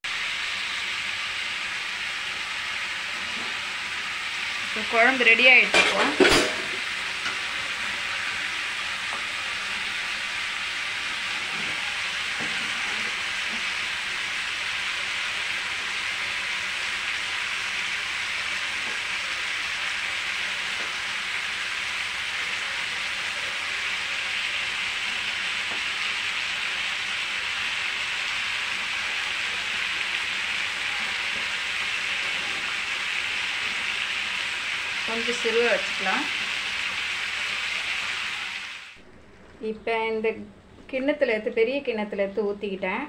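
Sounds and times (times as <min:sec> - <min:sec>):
curry simmering with sizzling hiss: 0:00.1 - 0:43.0.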